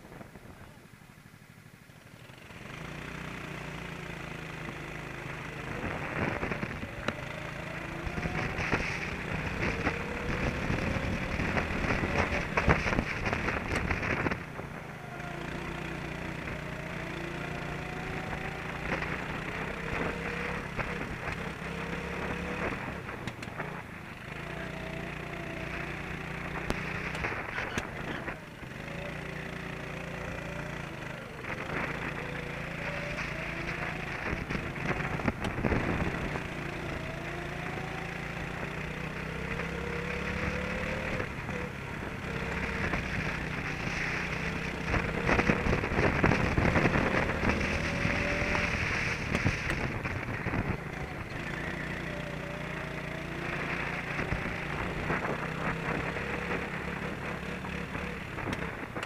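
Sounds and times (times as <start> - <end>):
wind: 0.0 - 59.0
kart engine revving: 2.2 - 59.0.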